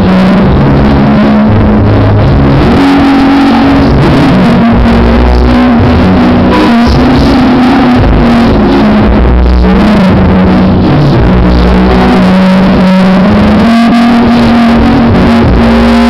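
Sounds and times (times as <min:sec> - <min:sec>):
loud music with bass line: 0:00.0 - 0:16.0.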